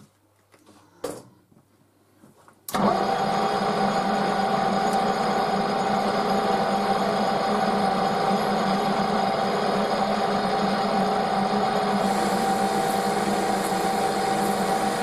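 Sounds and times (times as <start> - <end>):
metal lathe humming: 2.8 - 15.0.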